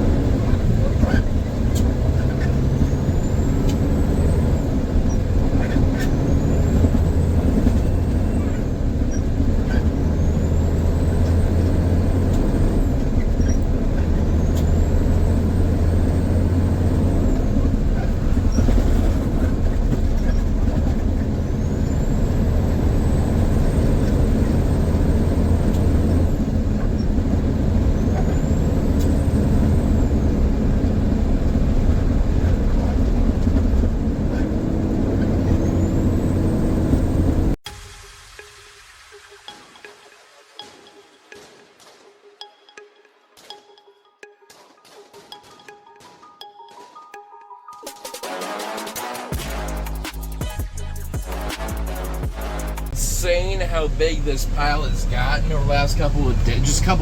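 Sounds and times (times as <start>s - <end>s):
truck engine drone: 0.0s - 38.1s, 48.2s - 57.0s.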